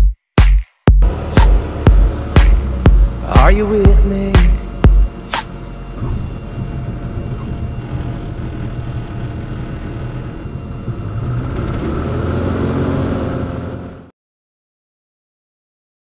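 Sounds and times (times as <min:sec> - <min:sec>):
propeller aircraft engine: 0:01.0 - 0:14.1.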